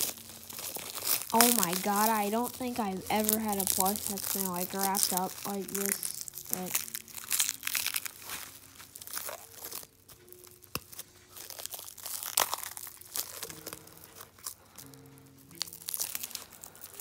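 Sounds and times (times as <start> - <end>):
faint melody of held notes: 0.0 - 17.0
plastic wrap crinkling and tearing: 0.0 - 17.0.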